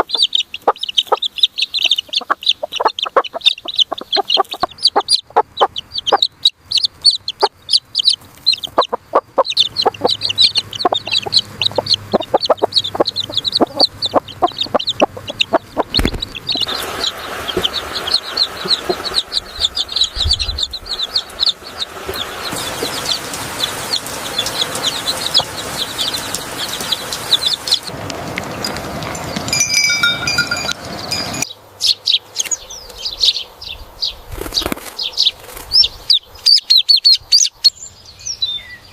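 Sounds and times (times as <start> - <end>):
chickens peeping: 0.0 - 38.9.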